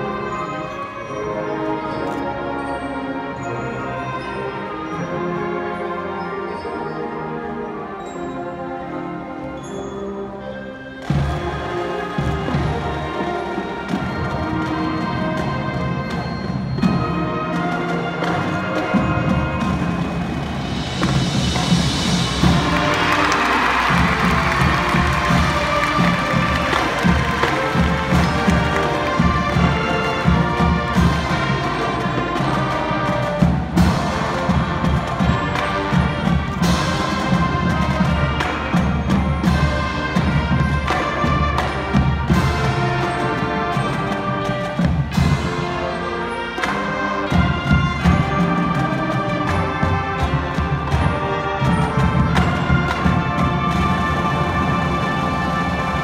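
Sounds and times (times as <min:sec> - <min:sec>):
brass band chords: 0:00.0 - 0:56.0
marching percussion hits: 0:11.0 - 0:56.0.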